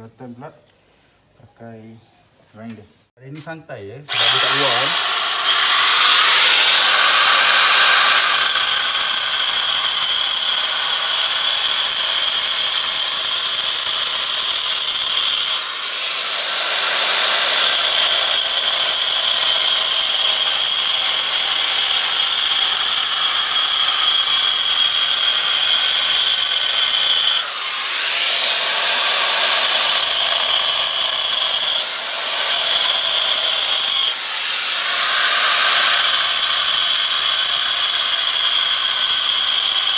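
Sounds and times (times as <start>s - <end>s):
angle grinder cutting into wall: 4.1s - 39.9s.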